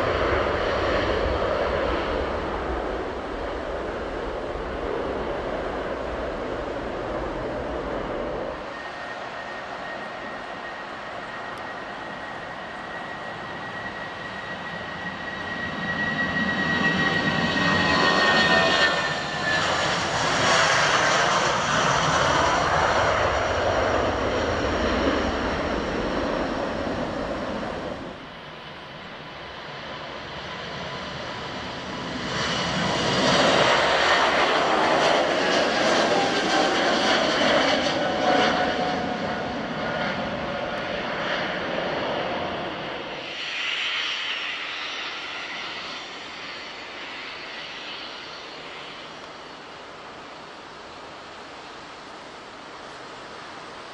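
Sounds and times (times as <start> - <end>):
jet airliner engines passing by: 0.0 - 53.9.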